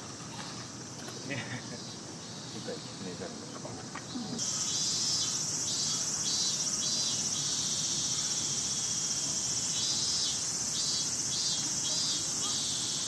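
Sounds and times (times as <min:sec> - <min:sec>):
cicadas high-pitched buzz: 0:00.0 - 0:13.0
lower pulsing insect call: 0:00.0 - 0:13.0.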